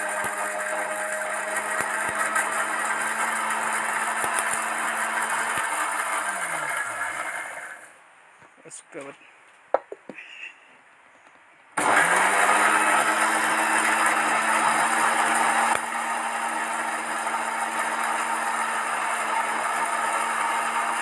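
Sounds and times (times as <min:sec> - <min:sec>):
mixer grinder grinding: 0:00.0 - 0:08.0, 0:11.8 - 0:21.0.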